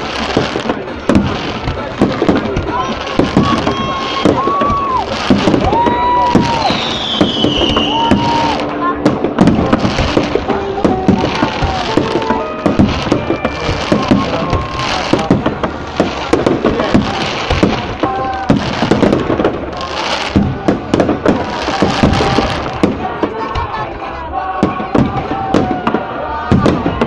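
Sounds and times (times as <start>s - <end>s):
fireworks bangs: 0.0s - 27.0s
fireworks hissing crackle: 0.0s - 27.0s.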